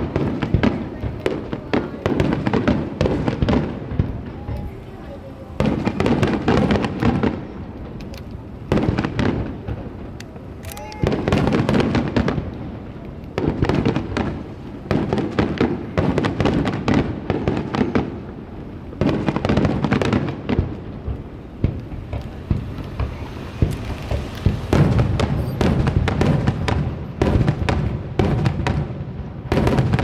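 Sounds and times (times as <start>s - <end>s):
fireworks bursting and crackling: 0.0s - 30.0s.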